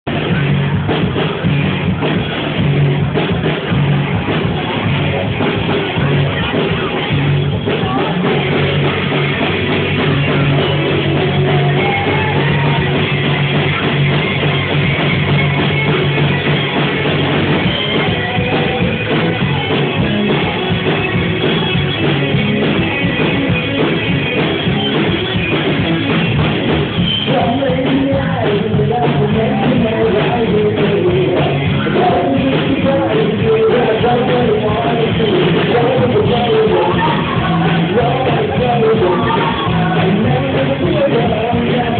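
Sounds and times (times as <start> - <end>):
rock band playing live: 0.0 - 41.9
person singing: 3.4 - 26.1, 26.9 - 41.9.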